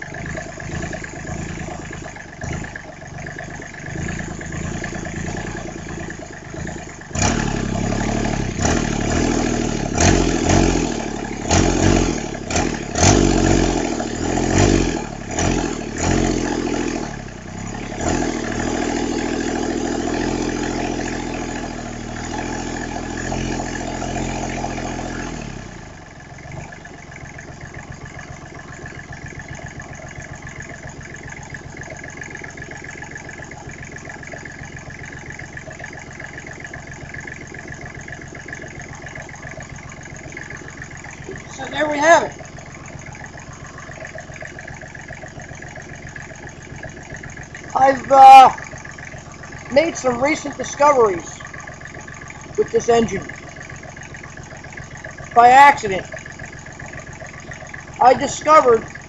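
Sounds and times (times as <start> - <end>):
small diesel engine revving: 0.0 - 59.0.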